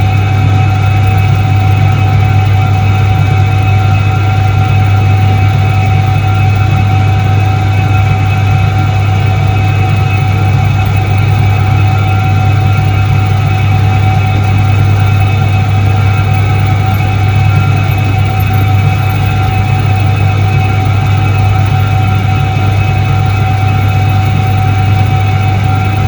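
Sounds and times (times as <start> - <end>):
constant high whine: 0.0 - 26.0
washing machine motor humming: 0.0 - 26.0.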